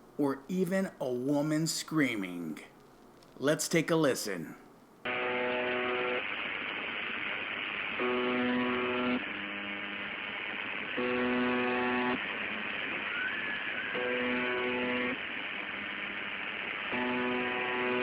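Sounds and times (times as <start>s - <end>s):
shortwave static hiss: 0.0s - 18.0s.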